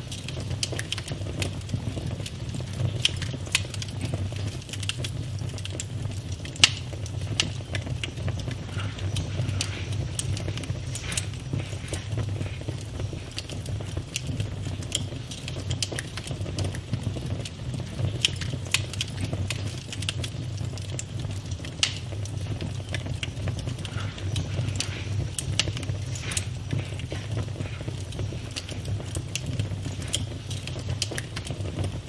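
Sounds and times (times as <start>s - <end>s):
low rumble of flame: 0.0s - 32.0s
wood crackling and popping: 0.0s - 32.0s.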